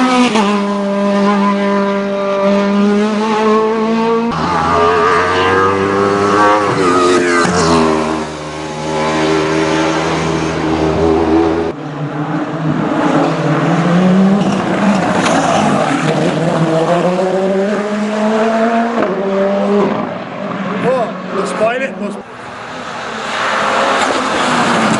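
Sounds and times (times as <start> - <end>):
car accelerating through gears: 0.0 - 11.8, 12.4 - 21.8
racing car engines revving: 0.0 - 24.9.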